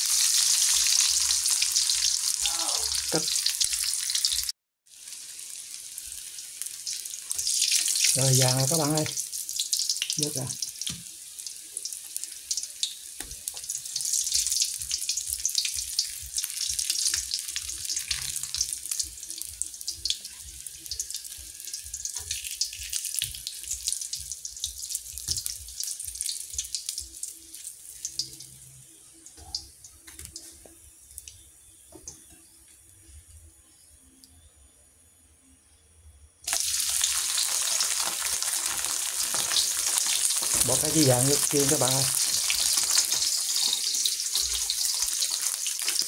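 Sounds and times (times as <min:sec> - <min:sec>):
hot oil sizzling and popping: 0:00.0 - 0:33.2, 0:36.4 - 0:46.0.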